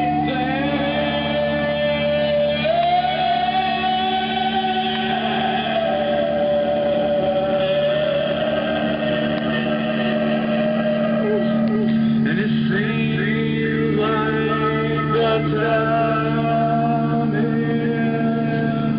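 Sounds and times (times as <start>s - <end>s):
low drone: 0.0s - 18.9s
sliding held melody: 0.0s - 18.9s.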